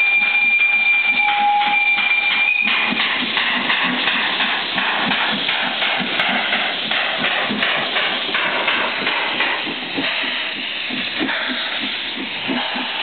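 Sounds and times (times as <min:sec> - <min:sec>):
steam hissing: 0:00.0 - 0:13.0
steam locomotive chuffing: 0:00.0 - 0:13.0
train wheels knocking over rail joints: 0:00.0 - 0:13.0.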